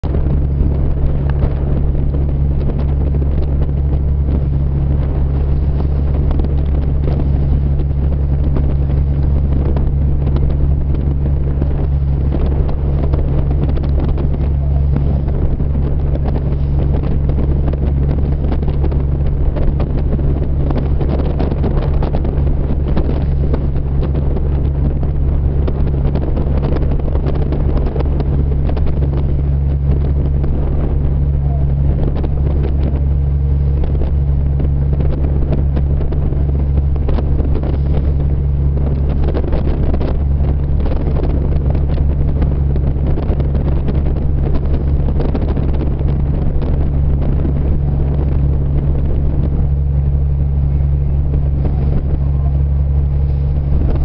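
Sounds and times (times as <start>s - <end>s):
boat engine droning: 0.0s - 54.0s
water rushing: 0.0s - 54.0s
wind on microphone: 0.0s - 54.0s.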